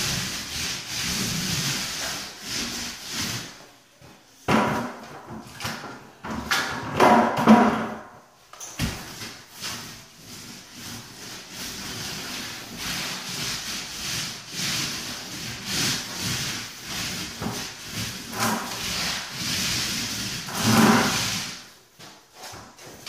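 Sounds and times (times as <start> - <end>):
paint roller rolling on wall: 0.0 - 23.0.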